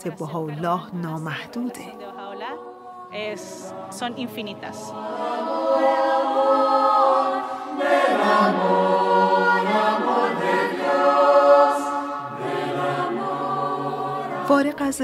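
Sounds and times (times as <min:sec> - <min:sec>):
choir singing sustained chords: 0:00.1 - 0:15.0.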